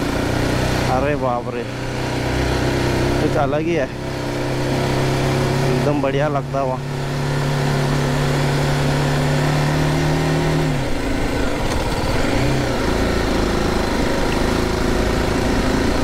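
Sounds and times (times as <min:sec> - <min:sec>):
motorcycle engine running: 0:00.0 - 0:16.0
wind and road rush: 0:00.0 - 0:16.0.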